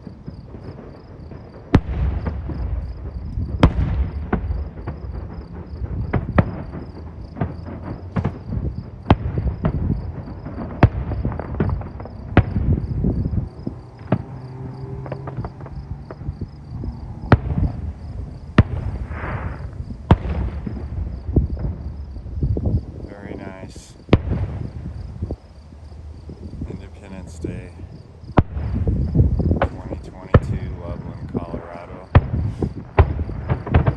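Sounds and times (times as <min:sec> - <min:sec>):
firework crackling hiss: 0:00.0 - 0:33.9
low echoing rumble: 0:01.2 - 0:33.9.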